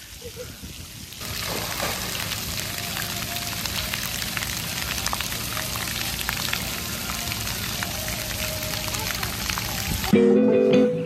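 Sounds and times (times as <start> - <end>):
water spraying and pattering: 0.0 - 10.2.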